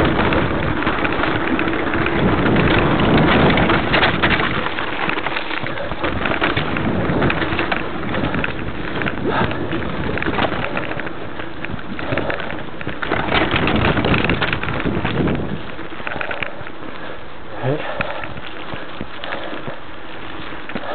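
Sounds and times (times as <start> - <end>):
bike rattling: 0.0 - 20.9
tyres rumbling over dirt: 0.0 - 20.9
wind buffeting microphone: 0.0 - 20.9.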